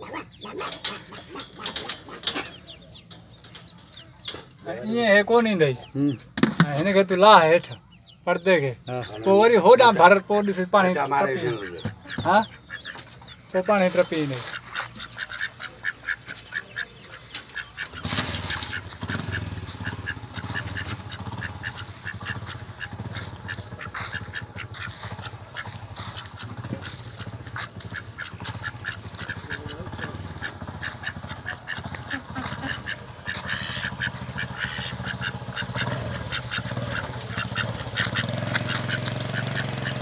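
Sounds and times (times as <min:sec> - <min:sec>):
ducks quacking: 0:00.0 - 0:40.0.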